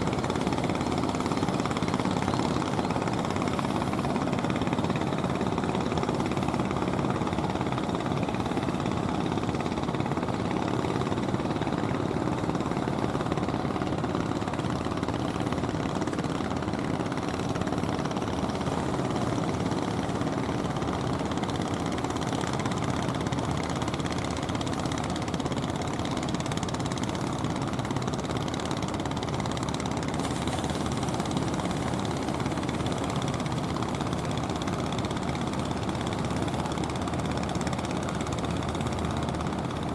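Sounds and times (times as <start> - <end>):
motor boat engine running: 0.0 - 39.9.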